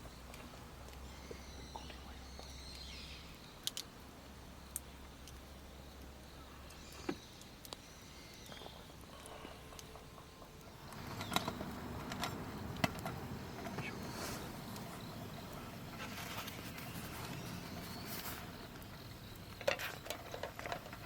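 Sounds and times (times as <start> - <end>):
wood fire crackling: 2.3 - 21.0.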